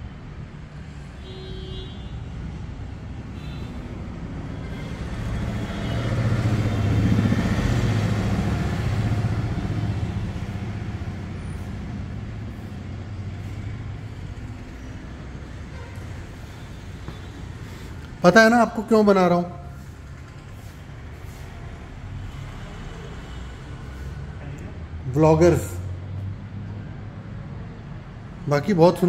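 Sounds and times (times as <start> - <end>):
vehicle passing by: 2.4 - 29.0.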